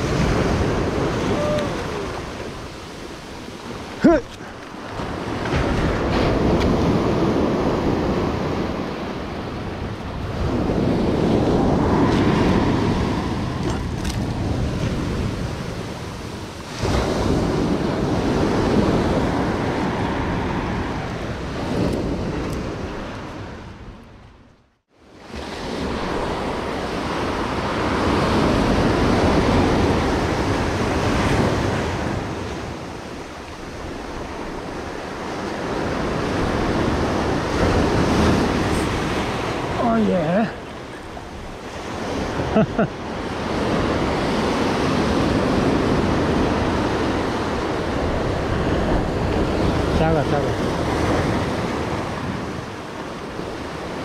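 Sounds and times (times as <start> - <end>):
ocean surf breaking on rocks: 0.0 - 23.9, 25.0 - 54.0.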